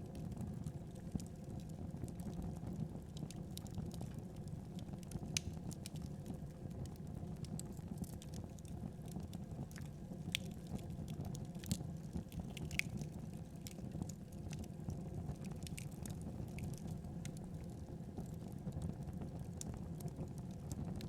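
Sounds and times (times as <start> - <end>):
wood fire crackling and popping: 0.1 - 21.0
fire flames rumbling: 0.2 - 21.0.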